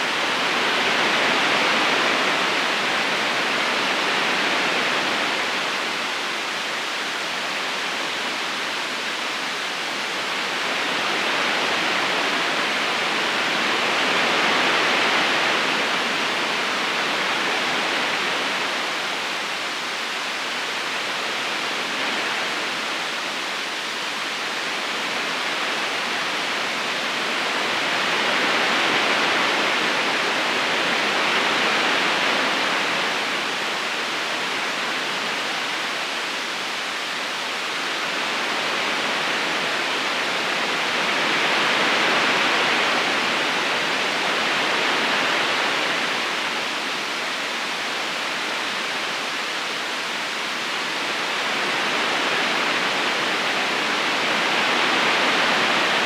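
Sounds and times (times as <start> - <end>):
river flowing over stones: 0.1 - 56.0.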